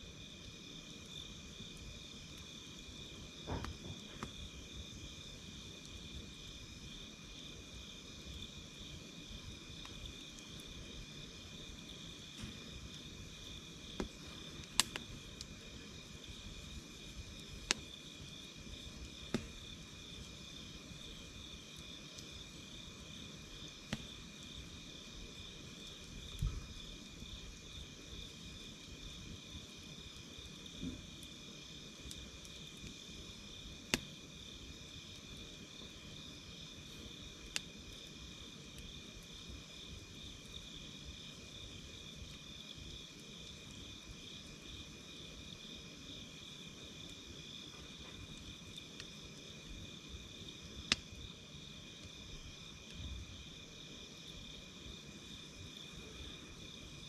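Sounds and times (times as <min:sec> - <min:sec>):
campfire crackling and popping: 0:00.0 - 0:57.0
cricket steady high trill: 0:00.0 - 0:57.0.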